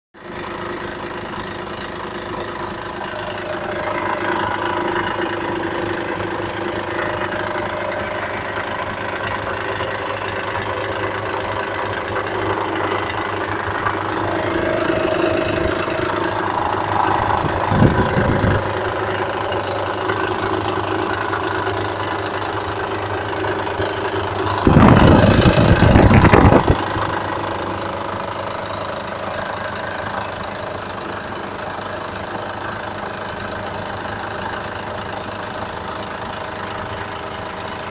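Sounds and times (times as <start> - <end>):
engine running with knock: 0.2 - 37.9.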